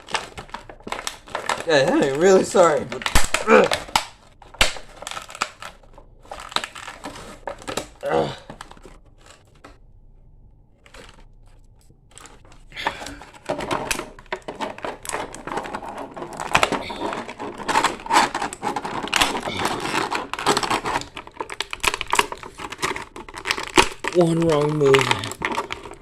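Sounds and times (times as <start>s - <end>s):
plastic packaging crinkling: 0.0s - 9.8s, 10.8s - 26.0s.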